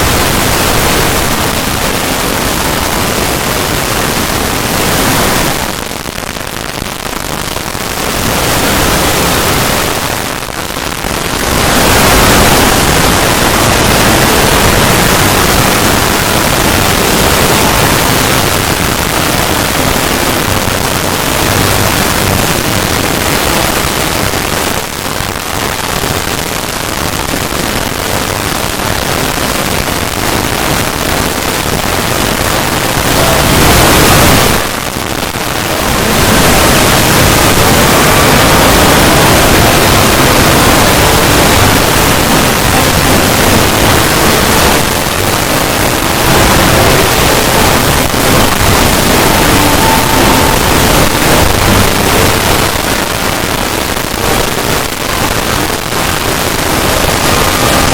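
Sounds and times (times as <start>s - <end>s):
loud harsh static noise: 0.0s - 57.9s.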